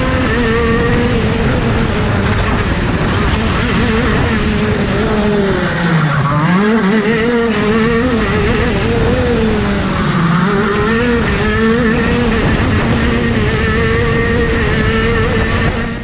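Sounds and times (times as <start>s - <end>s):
go-kart engine running hard: 0.0s - 16.0s.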